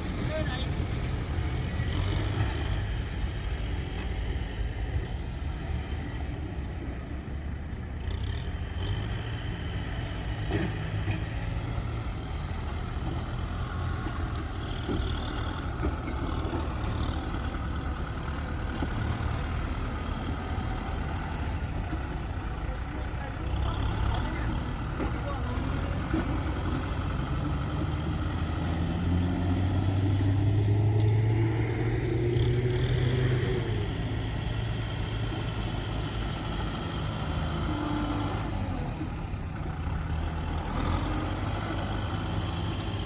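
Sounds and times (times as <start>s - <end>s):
diesel engines running: 0.0s - 43.0s.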